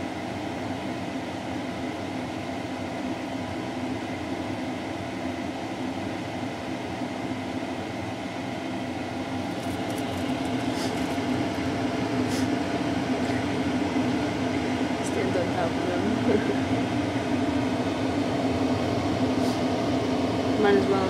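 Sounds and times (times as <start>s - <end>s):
machine drone with low hum: 0.0s - 21.0s.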